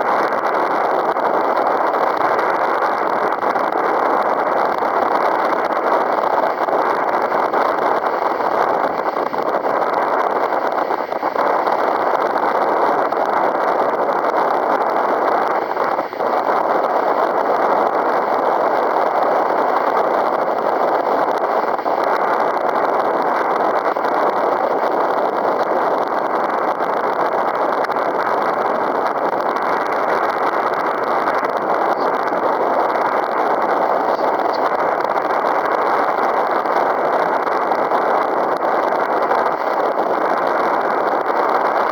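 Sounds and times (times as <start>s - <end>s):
strong wind on microphone: 0.0s - 41.9s.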